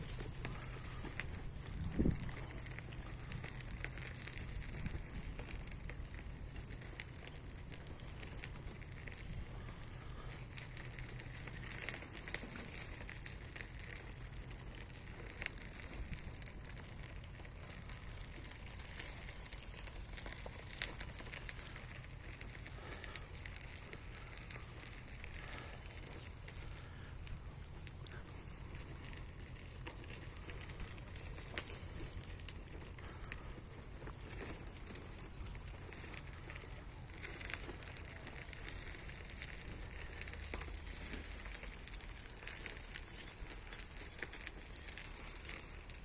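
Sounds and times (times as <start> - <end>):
low crackling with pops: 0.0 - 46.0.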